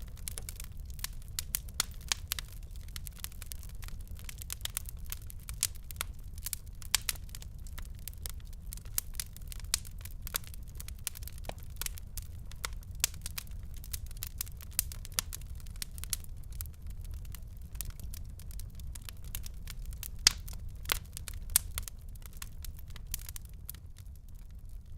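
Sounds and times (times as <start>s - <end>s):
wood fire crackling: 0.0s - 24.9s.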